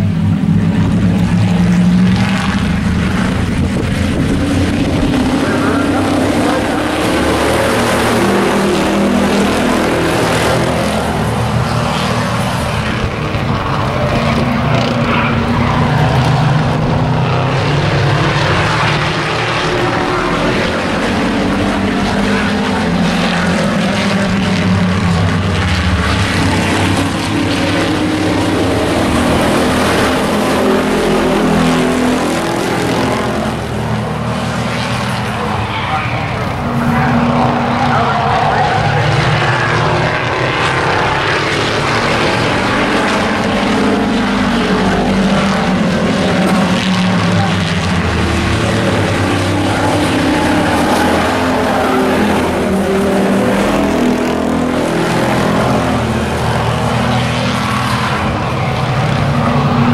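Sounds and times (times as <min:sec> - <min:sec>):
racing truck engines: 0:00.0 - 0:59.9.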